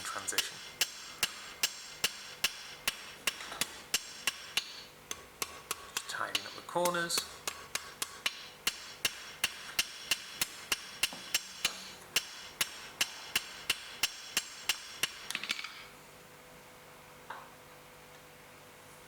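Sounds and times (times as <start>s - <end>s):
hammer striking steel on anvil: 0.0s - 15.9s.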